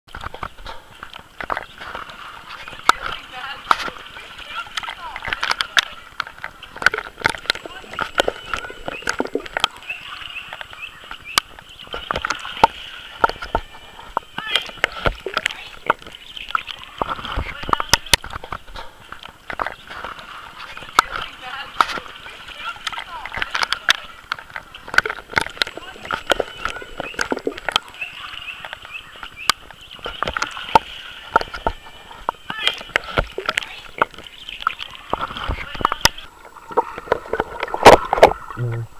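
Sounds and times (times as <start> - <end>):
water sloshing and lapping: 0.1 - 38.7
small splashes: 0.2 - 38.7.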